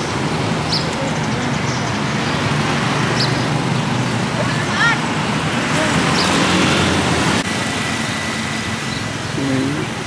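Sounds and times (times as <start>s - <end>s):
market bustle: 0.0s - 10.0s.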